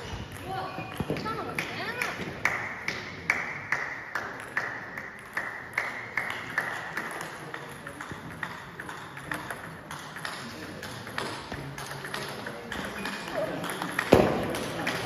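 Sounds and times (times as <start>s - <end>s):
table tennis ball bouncing: 0.0s - 15.0s.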